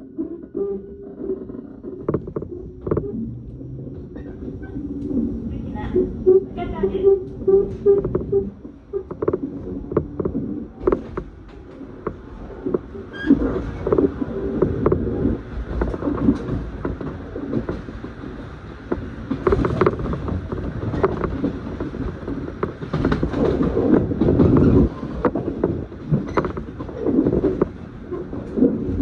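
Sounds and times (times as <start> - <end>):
train wheels rumbling on rails: 0.0 - 29.0
clicks and knocks from track: 0.2 - 29.0.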